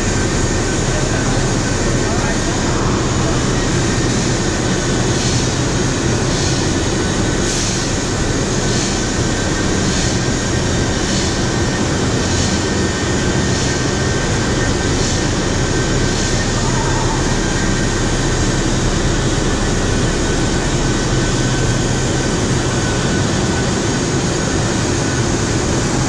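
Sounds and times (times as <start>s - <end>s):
industrial machinery drone: 0.0s - 26.0s.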